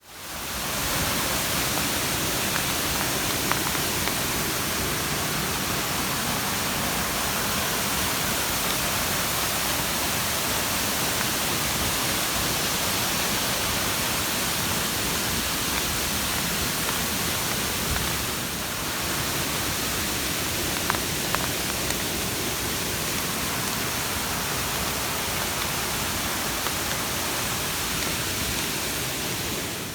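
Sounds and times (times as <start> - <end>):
waterfall rushing: 0.1 - 29.9.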